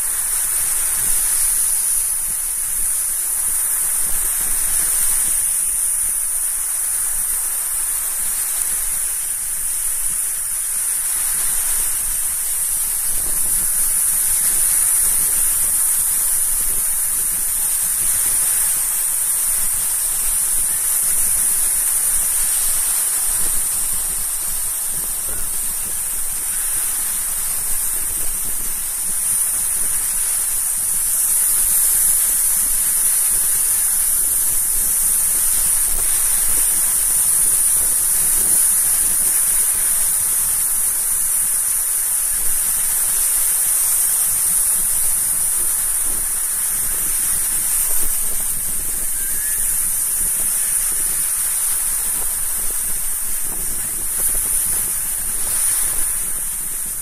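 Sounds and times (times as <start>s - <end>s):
small waves breaking on beach: 0.0s - 57.0s.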